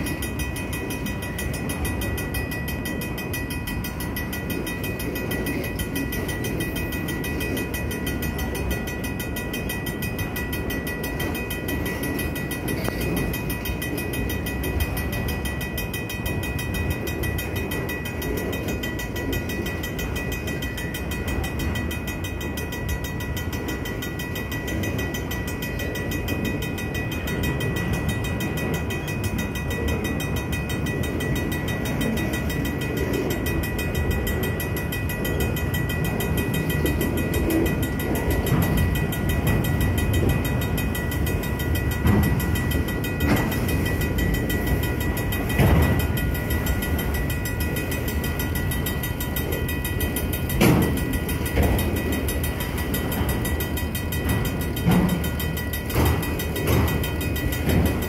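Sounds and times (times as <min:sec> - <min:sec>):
crossing bell ringing fast: 0:00.0 - 0:58.0
freight train rumbling: 0:00.0 - 0:58.0.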